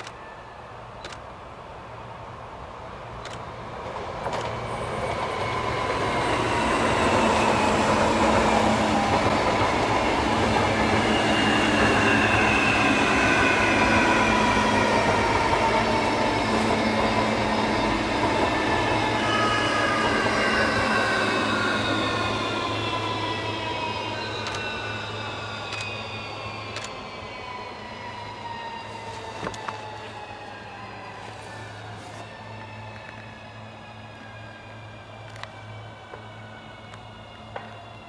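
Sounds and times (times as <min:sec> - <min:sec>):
train wheels rushing on rail: 0:01.8 - 0:38.0.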